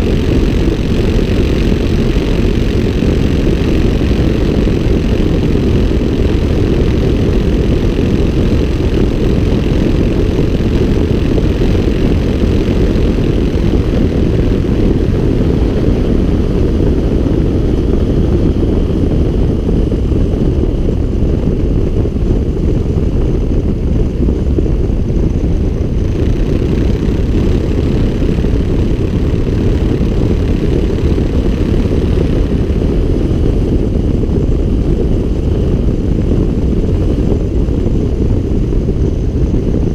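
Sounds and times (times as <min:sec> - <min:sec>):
light aircraft engine drone: 0:00.0 - 0:39.9
wind rush: 0:00.0 - 0:39.9.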